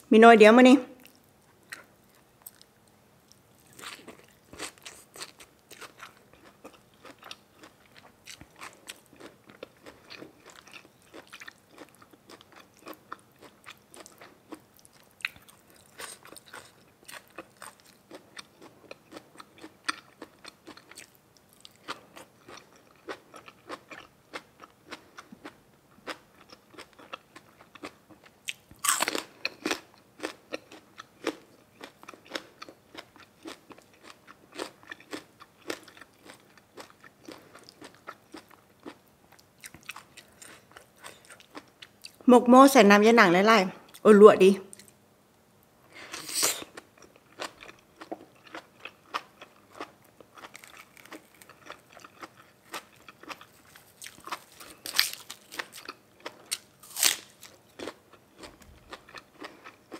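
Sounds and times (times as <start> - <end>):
person chewing crunchy food: 1.0 - 42.2, 46.0 - 59.9.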